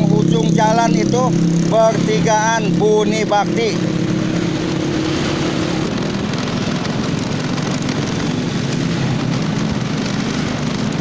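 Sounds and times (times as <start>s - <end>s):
motorcycle engine running: 0.0s - 11.0s
rushing wind and road noise: 0.0s - 11.0s.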